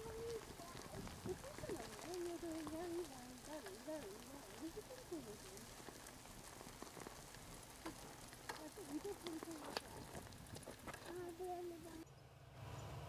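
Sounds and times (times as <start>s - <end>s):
bicycle tyres rolling on pavement: 0.0s - 12.0s.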